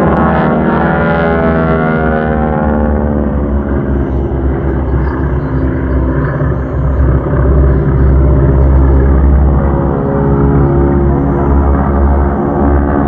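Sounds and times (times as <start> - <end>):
propeller planes droning overhead: 0.0 - 13.0.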